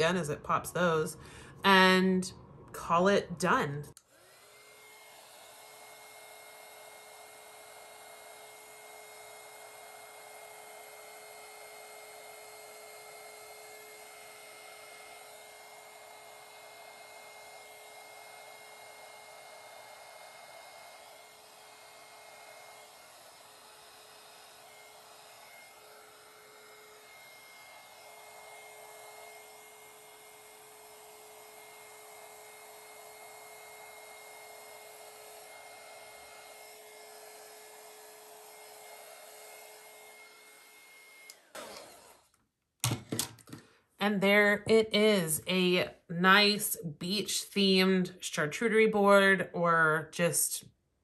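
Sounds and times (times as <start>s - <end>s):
heat gun fan whine: 0.0s - 47.9s.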